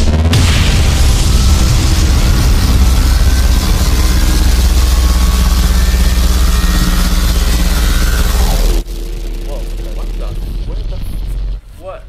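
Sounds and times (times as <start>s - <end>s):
deep rumbling drone: 0.0s - 12.0s.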